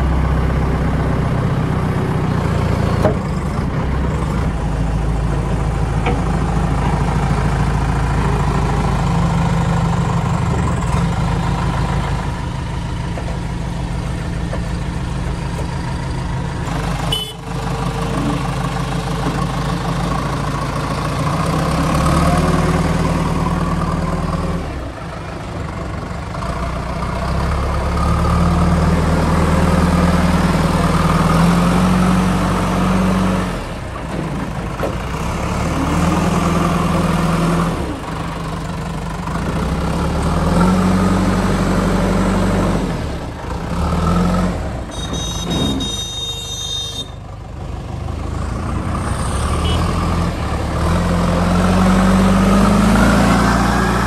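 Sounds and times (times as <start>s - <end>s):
diesel engine revving: 0.0s - 46.3s, 46.9s - 54.0s.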